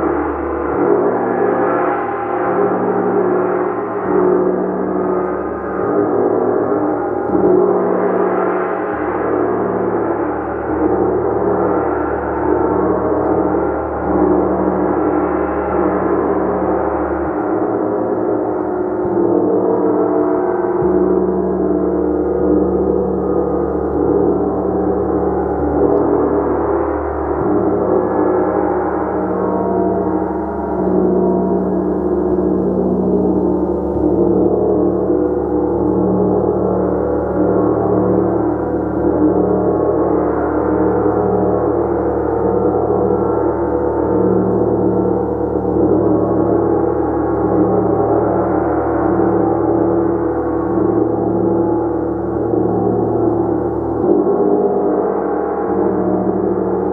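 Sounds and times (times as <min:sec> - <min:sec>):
large gong shimmering: 0:00.0 - 0:56.9.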